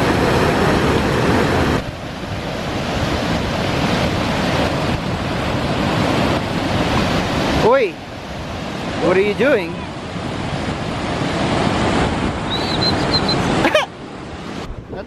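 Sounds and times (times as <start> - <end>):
wind buffeting microphone: 0.0 - 13.6, 14.2 - 15.0
fast mountain stream rushing: 0.0 - 15.0.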